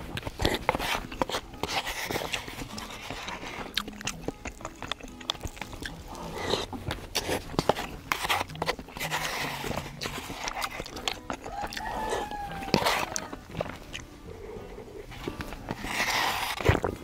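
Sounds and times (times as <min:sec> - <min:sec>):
wet chewing and slurping: 0:00.0 - 0:17.0.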